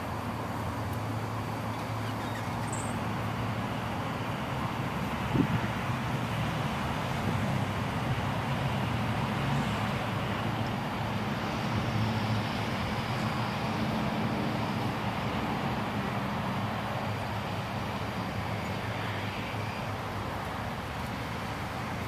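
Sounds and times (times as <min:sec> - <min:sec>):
low engine hum: 0:00.0 - 0:22.0
traffic noise: 0:00.0 - 0:22.0.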